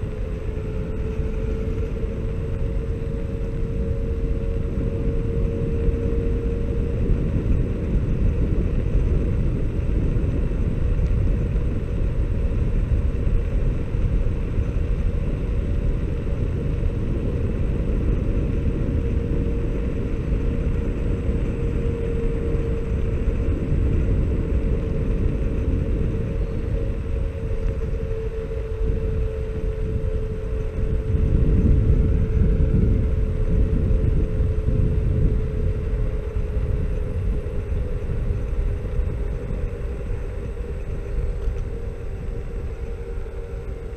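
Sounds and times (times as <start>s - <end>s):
electric motor whine: 0.0s - 43.9s
tyres rumbling on road: 0.0s - 43.9s
wind on microphone: 0.0s - 43.9s.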